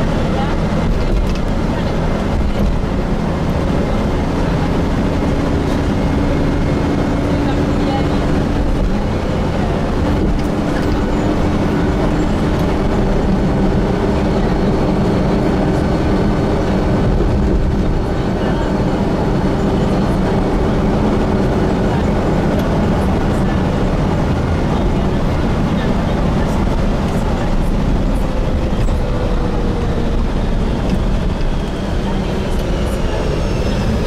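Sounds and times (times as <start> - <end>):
bus engine and road noise drone: 0.0 - 34.0
constant hum: 0.0 - 34.0.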